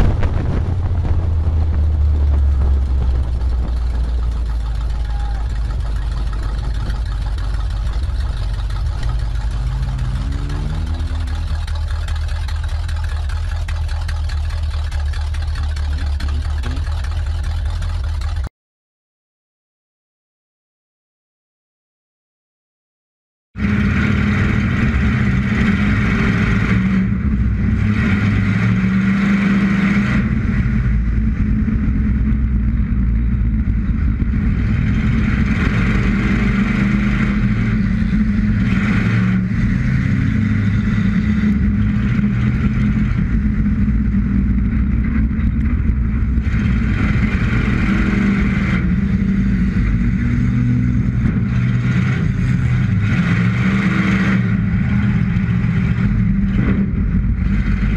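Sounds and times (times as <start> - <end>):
rushing noise: 0.0 - 16.1, 23.6 - 57.9
race car engine revving: 0.0 - 18.5, 23.6 - 57.9.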